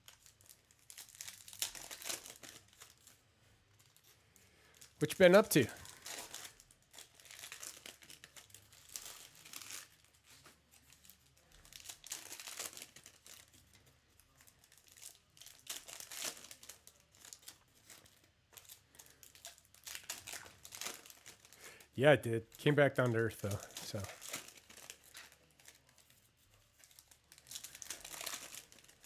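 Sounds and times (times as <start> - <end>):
card pack wrappers crinkling and tearing: 0.0 - 29.0.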